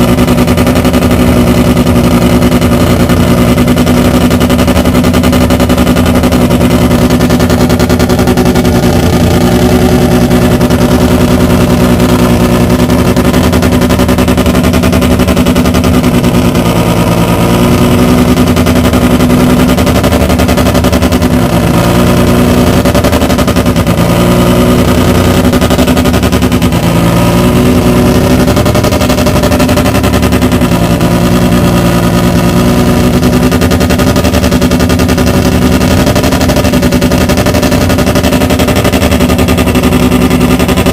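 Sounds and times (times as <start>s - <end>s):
loud rotary racing engine: 0.0s - 40.9s.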